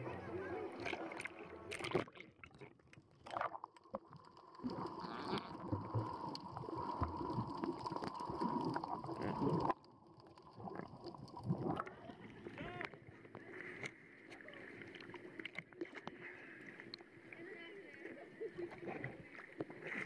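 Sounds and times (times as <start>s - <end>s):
underwater bubbling and gurgling: 0.7s - 20.0s.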